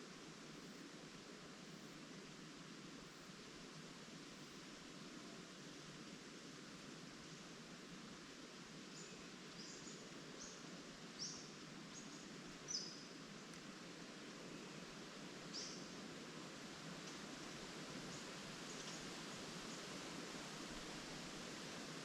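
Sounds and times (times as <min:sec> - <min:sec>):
leaves rustling in breeze: 0:00.0 - 0:22.0.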